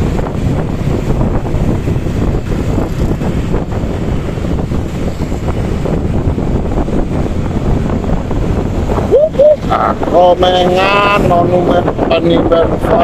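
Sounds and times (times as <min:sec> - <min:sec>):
road noise: 0:00.0 - 0:13.0
vehicle engine: 0:00.0 - 0:13.0
wind buffeting microphone: 0:00.0 - 0:13.0.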